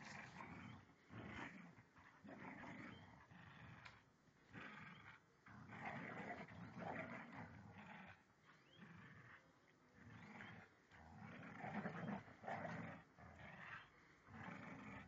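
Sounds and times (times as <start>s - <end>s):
dogs snarling and growling: 0.0s - 15.0s.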